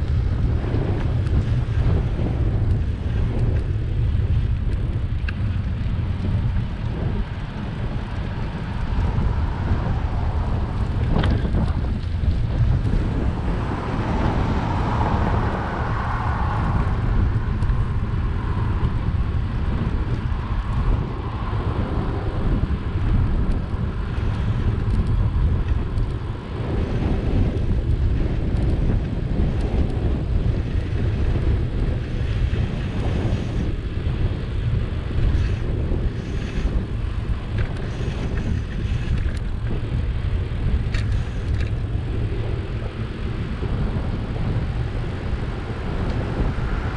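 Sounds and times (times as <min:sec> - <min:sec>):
tyre road noise: 0:00.0 - 0:46.9
wind buffeting microphone: 0:00.0 - 0:46.9.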